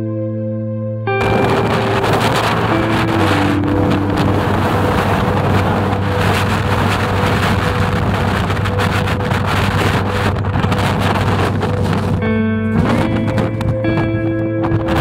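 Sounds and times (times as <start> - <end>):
wind buffeting microphone: 1.2 - 15.0.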